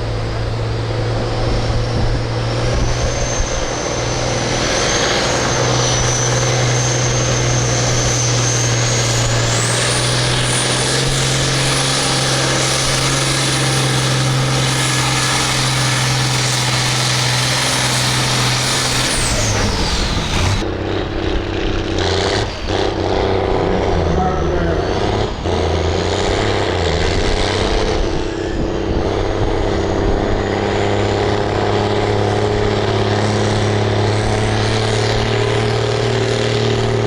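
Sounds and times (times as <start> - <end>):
high whine: 0.0 - 37.0
tractor engine under load: 0.0 - 37.0.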